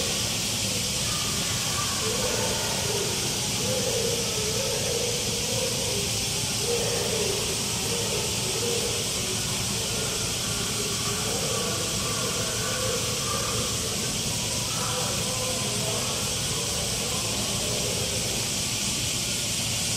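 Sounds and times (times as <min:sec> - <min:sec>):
distant voices murmuring: 0:00.0 - 0:19.9
steady hissing noise: 0:00.0 - 0:19.9.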